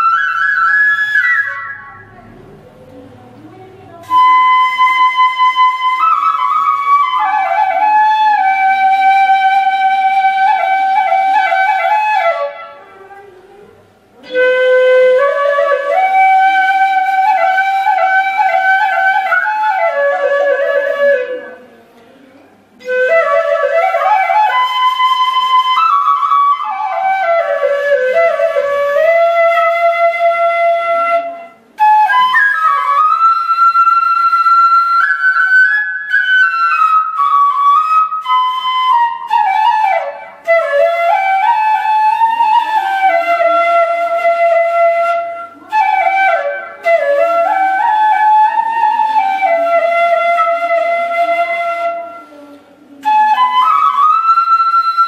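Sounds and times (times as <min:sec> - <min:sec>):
bamboo flute melody: 0:00.0 - 0:02.8, 0:03.8 - 0:21.8, 0:22.6 - 0:55.0.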